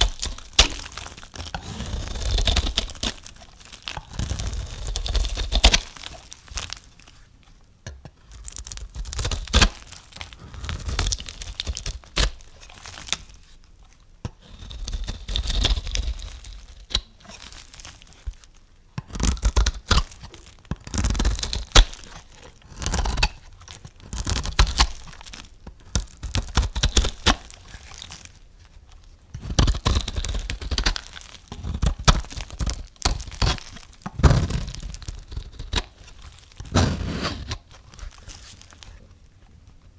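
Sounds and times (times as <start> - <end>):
knife cutting through dry soap: 0.0 - 7.2, 8.3 - 13.6, 14.3 - 18.3, 19.0 - 28.3, 29.4 - 39.0.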